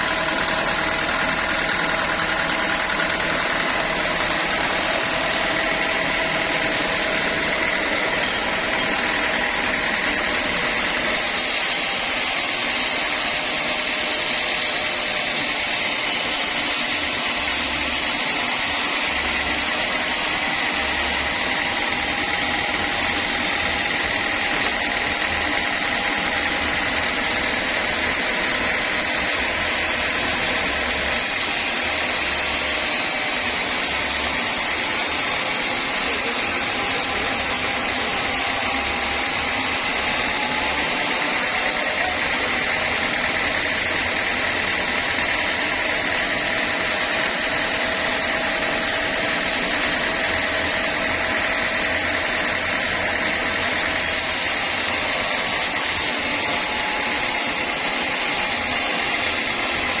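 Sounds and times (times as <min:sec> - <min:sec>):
sawmill saw whining: 0:00.0 - 1:00.0.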